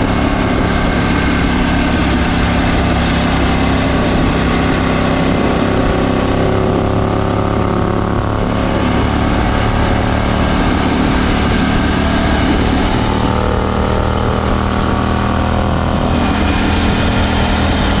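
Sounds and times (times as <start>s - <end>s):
loud motorcycle exhaust note: 0.0s - 18.0s.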